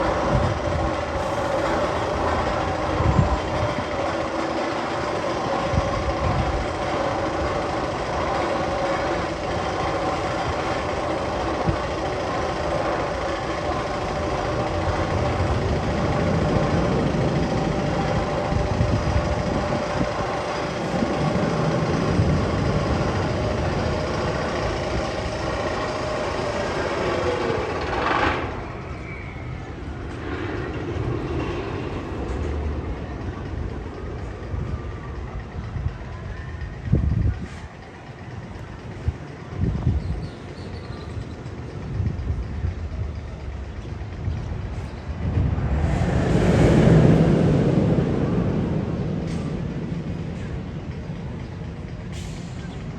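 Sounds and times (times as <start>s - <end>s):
roller coaster rumbling on track: 0.0s - 52.9s.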